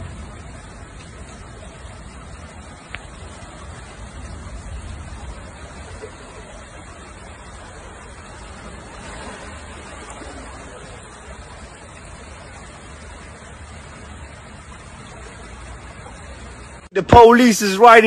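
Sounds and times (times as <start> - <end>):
car road noise: 0.0 - 18.0.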